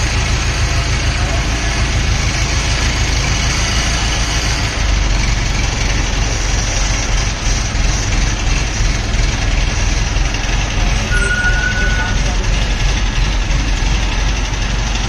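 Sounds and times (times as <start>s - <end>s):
diesel crane engine running: 0.0s - 15.0s.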